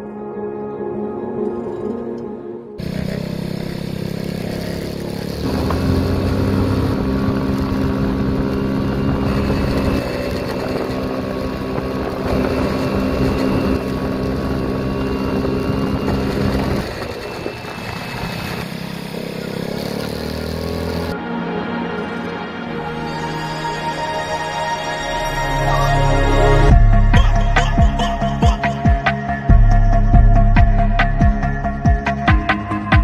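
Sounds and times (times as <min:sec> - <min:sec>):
scooter engine running: 0:02.8 - 0:22.1, 0:24.9 - 0:33.0.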